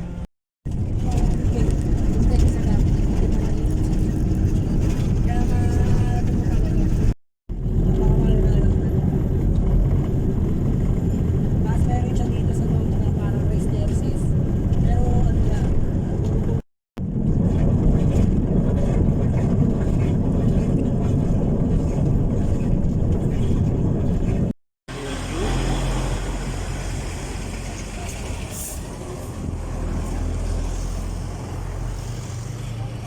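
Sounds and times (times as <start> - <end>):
engine rumbling: 0.0 - 33.0.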